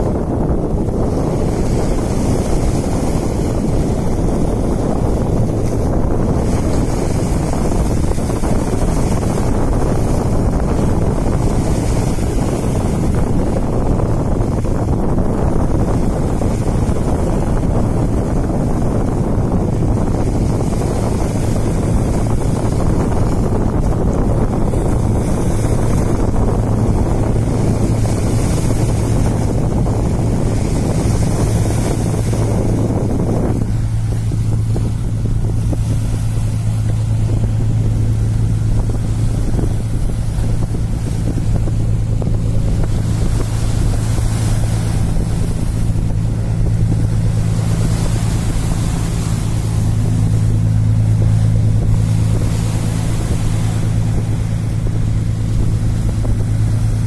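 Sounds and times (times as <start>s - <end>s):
boat engine droning: 0.0s - 57.0s
waves washing on rocks: 0.0s - 57.0s
wind rumbling on microphone: 0.0s - 57.0s.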